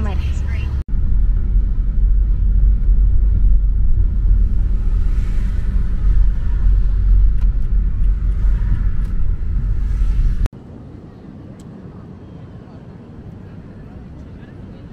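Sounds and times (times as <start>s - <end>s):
road rumble and engine noise: 0.0s - 14.9s
wind: 0.0s - 14.9s.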